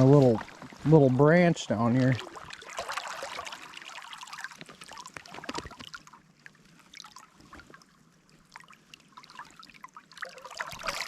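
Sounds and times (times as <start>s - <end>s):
water dripping and trickling: 0.0s - 11.0s
water splashing around wading person: 0.0s - 11.0s.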